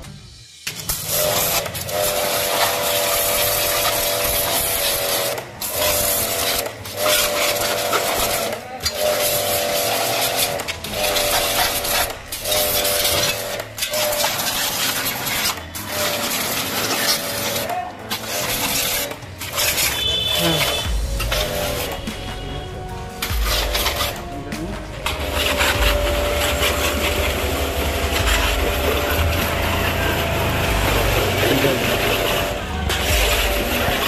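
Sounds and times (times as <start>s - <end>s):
water jet hissing on metal: 0.4s - 22.4s, 23.2s - 24.3s, 25.0s - 34.0s
pump buzzing whine: 0.7s - 34.0s.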